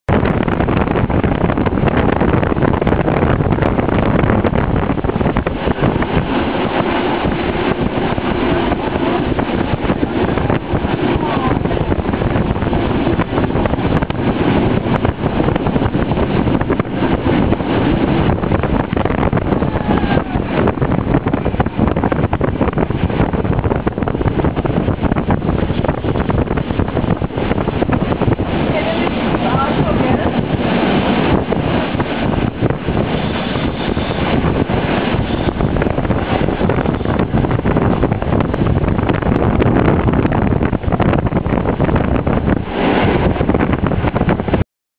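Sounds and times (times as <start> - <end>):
wind buffeting microphone: 0.0 - 44.6.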